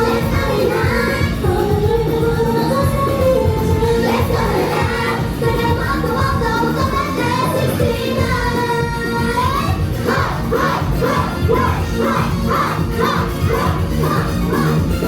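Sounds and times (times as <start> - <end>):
group singing live: 0.0 - 15.0
pop backing track: 0.0 - 15.0.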